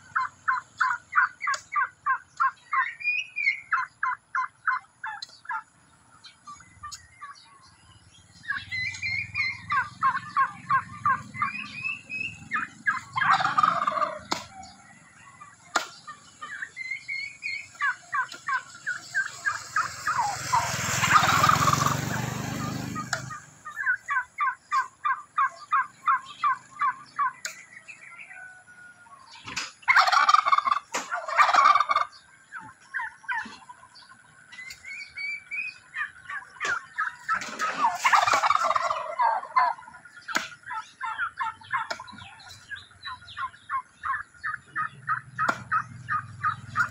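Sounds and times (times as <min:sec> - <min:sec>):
turkeys gobbling: 0:00.0 - 0:46.9.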